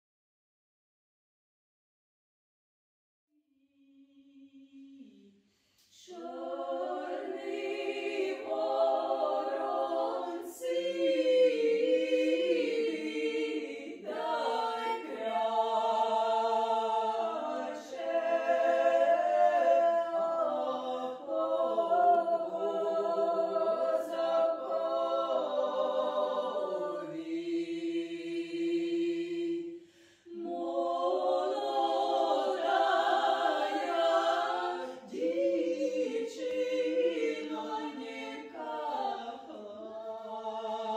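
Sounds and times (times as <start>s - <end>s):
women singing a cappella: 5.9s - 40.9s.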